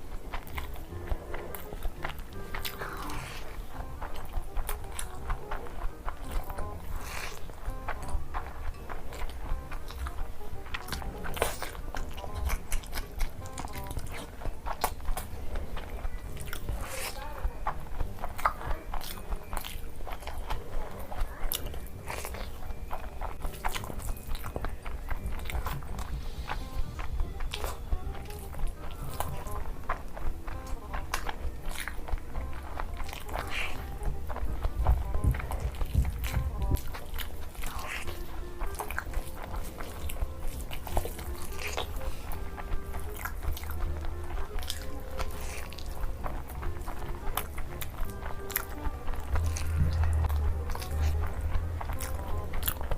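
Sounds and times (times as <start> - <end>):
background music with held notes: 0.0 - 52.9
person chewing crunchy food: 0.0 - 52.9.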